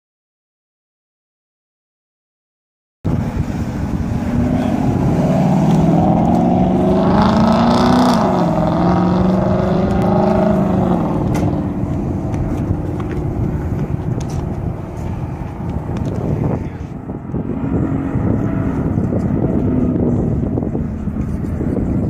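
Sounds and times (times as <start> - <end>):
car engine accelerating: 3.1 - 22.0.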